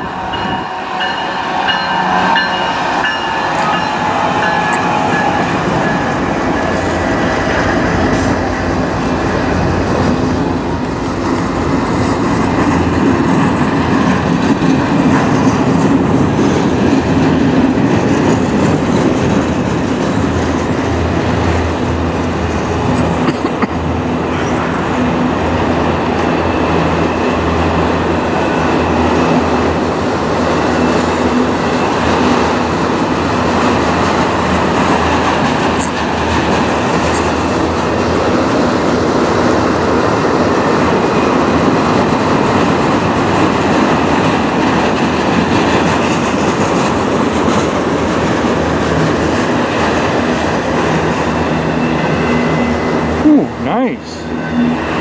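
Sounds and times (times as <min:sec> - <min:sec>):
diesel locomotive engine passing: 0:00.0 - 0:55.0
freight cars rumbling and clattering: 0:02.1 - 0:55.0.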